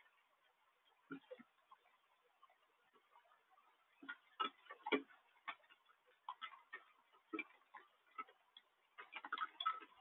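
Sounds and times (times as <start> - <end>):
rain drops tapping hard surface: 0.0 - 10.0.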